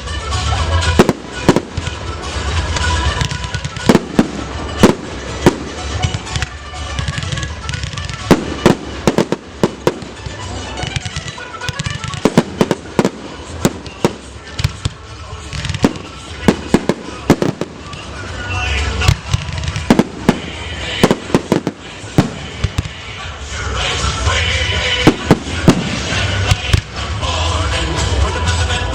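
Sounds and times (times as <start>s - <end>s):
fireworks bangs: 0.7s - 23.2s, 24.7s - 27.1s.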